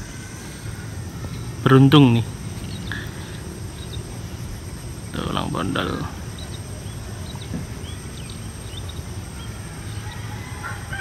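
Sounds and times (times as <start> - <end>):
longer steady bird call: 0.0 - 11.0
low outdoor rumble: 0.0 - 11.0
small birds chirping: 0.0 - 11.0.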